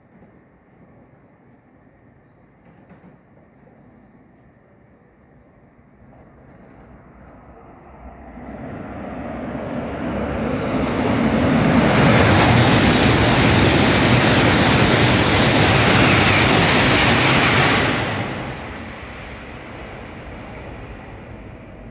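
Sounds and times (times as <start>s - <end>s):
bullet train rushing past: 0.0s - 21.9s.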